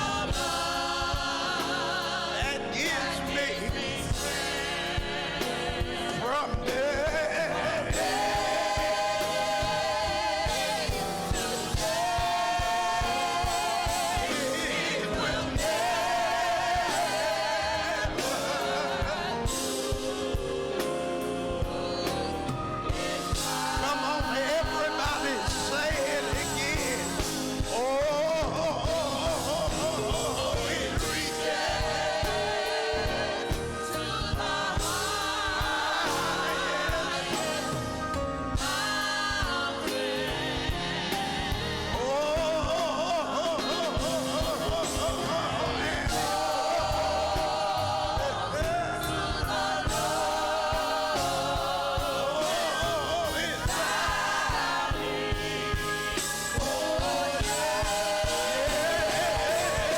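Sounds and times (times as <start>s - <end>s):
gospel choir singing with band: 0.0s - 59.9s.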